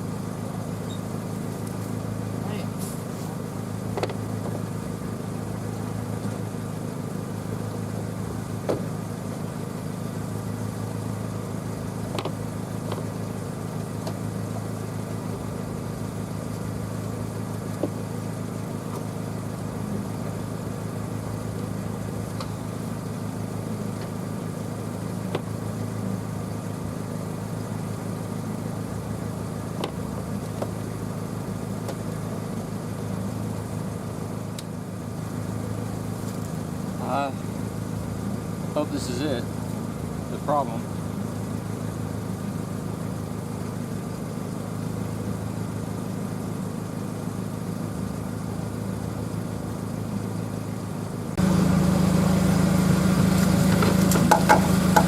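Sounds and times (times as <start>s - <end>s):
pickup engine idling: 0.0s - 55.0s.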